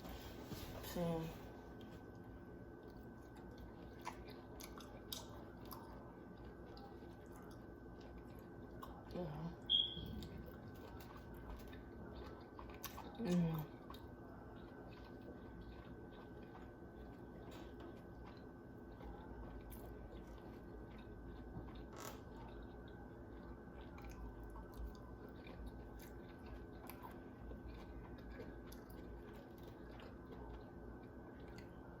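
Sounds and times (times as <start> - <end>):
faint chewing: 0.0 - 32.0
steady low hum: 0.0 - 32.0.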